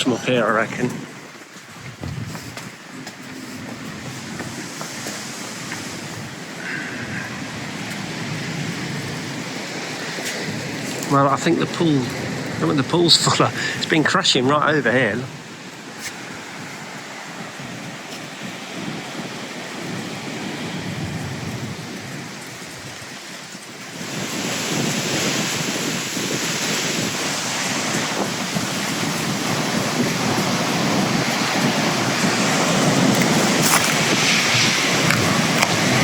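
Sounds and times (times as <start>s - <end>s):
surf crashing: 0.0s - 36.0s
wind on microphone: 0.0s - 36.0s.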